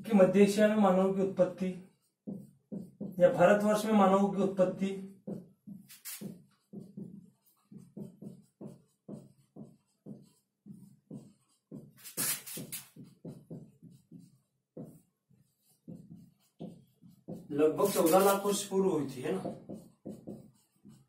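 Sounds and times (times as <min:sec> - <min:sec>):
marker writing on whiteboard: 0:00.0 - 0:21.0.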